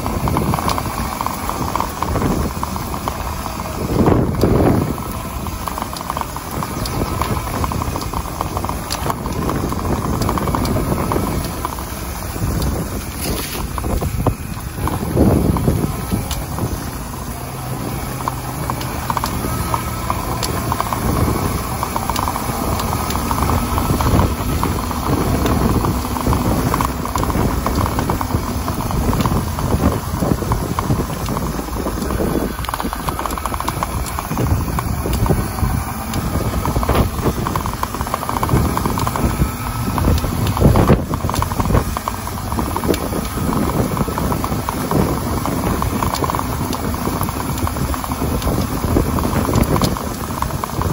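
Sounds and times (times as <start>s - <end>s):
knocks and rattles over bumps: 0.0s - 50.9s
tyre and suspension noise: 0.0s - 50.9s.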